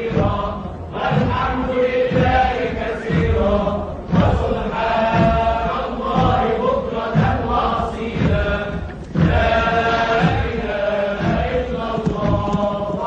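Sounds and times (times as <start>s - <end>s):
low beats: 0.0s - 13.0s
voices chanting: 0.0s - 13.0s.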